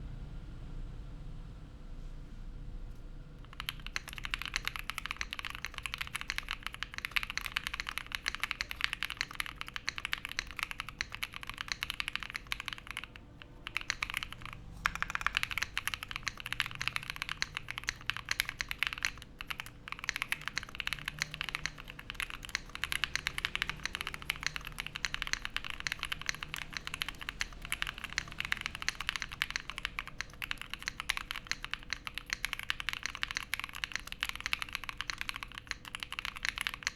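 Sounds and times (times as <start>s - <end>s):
mechanical keyboard key clacks: 3.4s - 36.9s.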